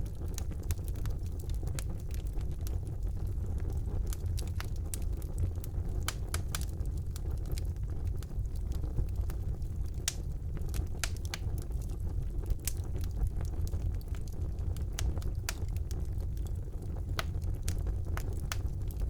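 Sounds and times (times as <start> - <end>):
fire crackles and pops: 0.0 - 19.0
low rumble of flames: 0.0 - 19.0.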